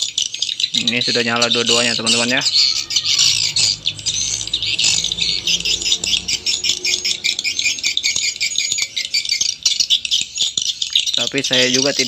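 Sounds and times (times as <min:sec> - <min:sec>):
recorded swiftlet calls chirping: 0:00.0 - 0:12.0.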